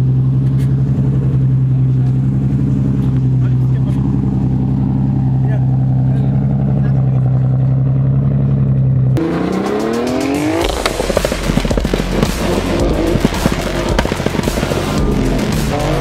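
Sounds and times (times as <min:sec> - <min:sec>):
car engine revving: 0:00.0 - 0:16.0
exhaust crackles and pops: 0:00.0 - 0:16.0.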